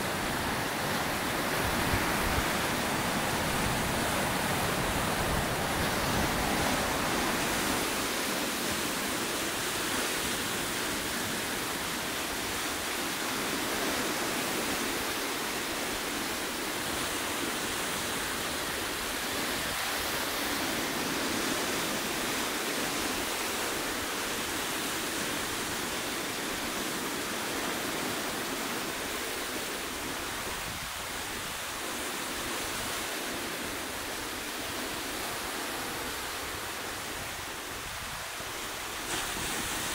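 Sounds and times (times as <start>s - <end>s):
surf washing over rocks: 0.0s - 39.9s.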